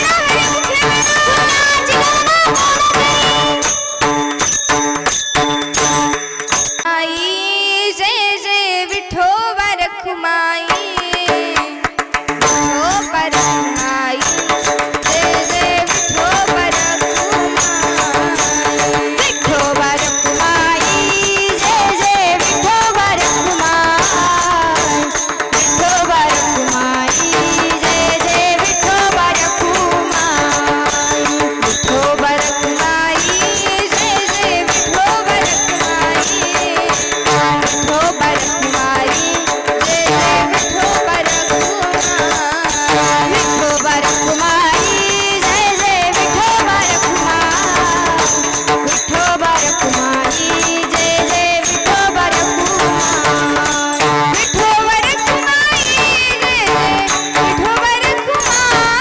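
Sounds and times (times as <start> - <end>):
jingling small cymbals: 0.0 - 7.5, 12.2 - 59.0
wavering devotional melody: 0.0 - 9.1, 10.6 - 59.0
rapid percussion: 0.0 - 59.0.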